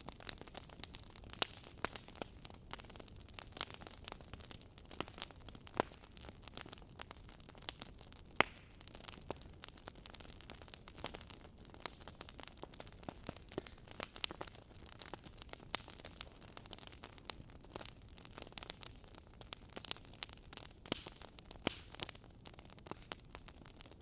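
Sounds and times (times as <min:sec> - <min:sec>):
logs crackling in a fireplace: 0:00.0 - 0:24.0.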